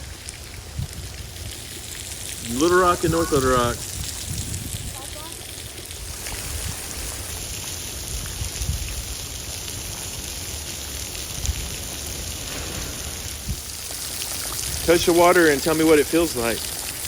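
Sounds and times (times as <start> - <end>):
meltwater dripping and splashing: 0.0 - 17.0.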